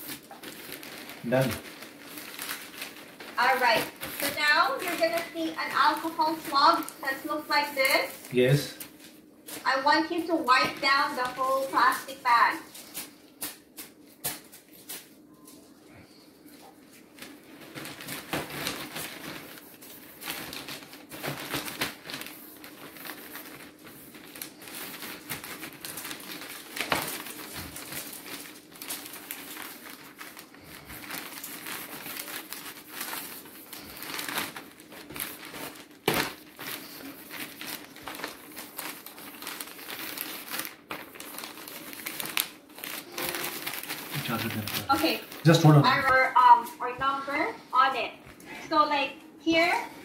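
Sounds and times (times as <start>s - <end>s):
plastic bag crinkling: 0.0s - 46.8s.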